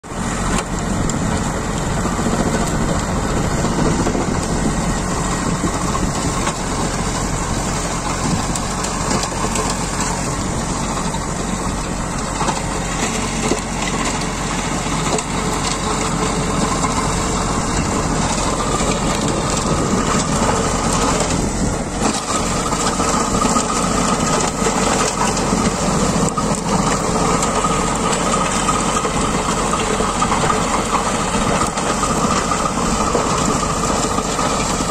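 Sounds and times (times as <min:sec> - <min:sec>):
tractor engine under load: 0:00.0 - 0:34.9
stone crusher clattering rock: 0:03.6 - 0:34.9.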